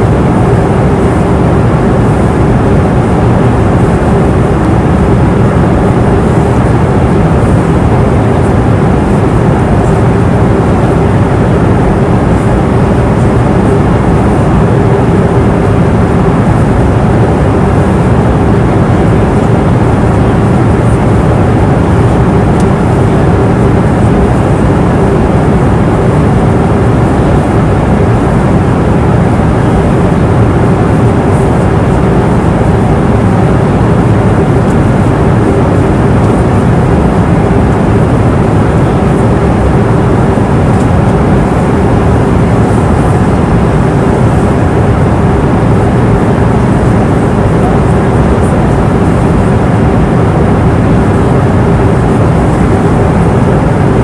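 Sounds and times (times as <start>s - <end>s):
airliner cabin roar: 0.0s - 54.0s
faint steady hum: 0.0s - 54.0s.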